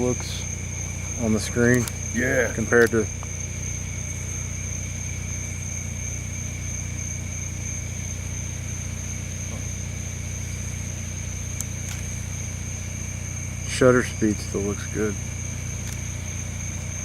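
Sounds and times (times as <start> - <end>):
low machine hum: 0.0 - 17.0
night insects droning: 0.0 - 17.0.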